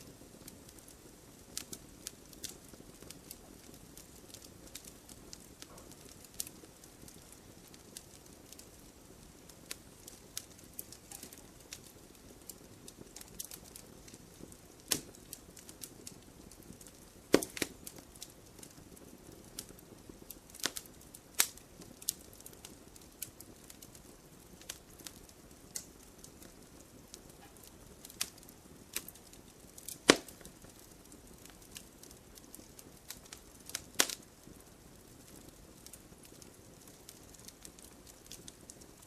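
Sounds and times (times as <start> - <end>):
faint low hiss: 0.0 - 39.0
fire crackling in a fireplace: 0.0 - 39.0.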